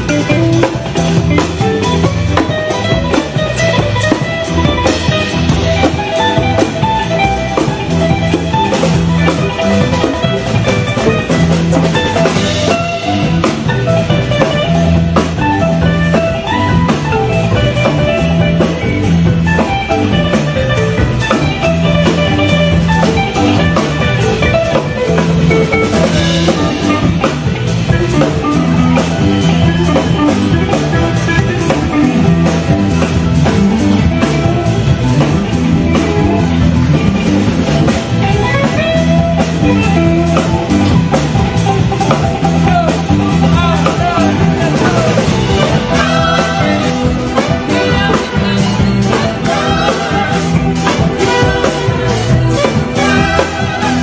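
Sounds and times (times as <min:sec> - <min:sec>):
music with drum beat: 0:00.0 - 0:54.0.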